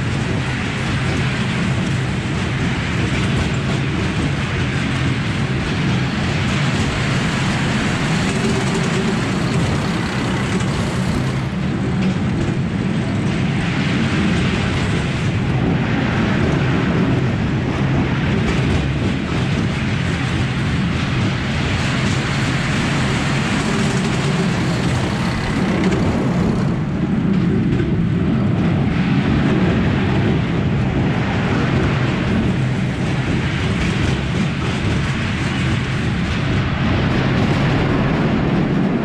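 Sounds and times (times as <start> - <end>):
roller coaster wheels rumbling on track: 0.0 - 39.0.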